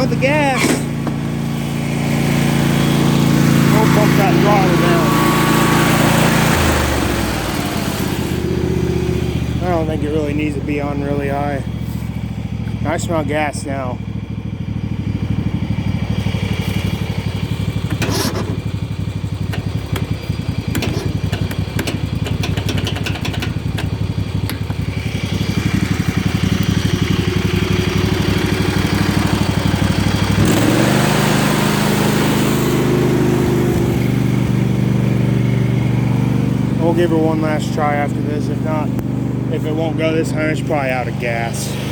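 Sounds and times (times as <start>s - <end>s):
lawn tractor engine turning over: 0.0s - 14.1s, 15.0s - 41.9s.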